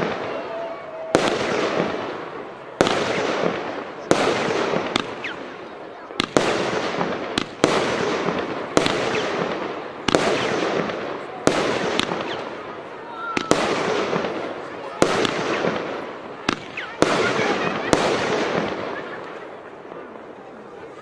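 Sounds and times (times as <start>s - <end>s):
firework bangs: 0.0s - 20.8s
firework crackle: 0.0s - 21.0s.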